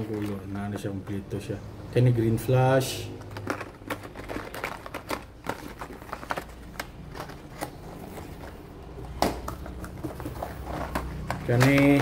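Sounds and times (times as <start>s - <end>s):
packages clicking and tapping: 0.0s - 1.2s, 3.0s - 12.0s.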